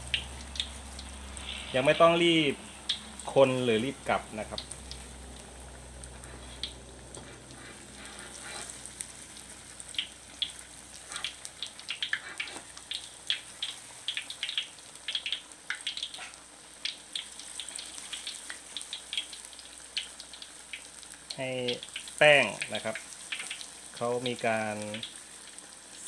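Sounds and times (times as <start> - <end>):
deep-frying sizzle: 0.0 - 26.0
oil crackles and pops: 0.0 - 26.0.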